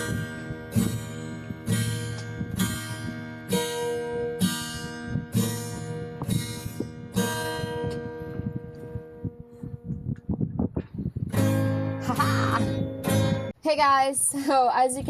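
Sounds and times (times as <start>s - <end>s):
guitar strummed slowly: 0.0s - 13.6s.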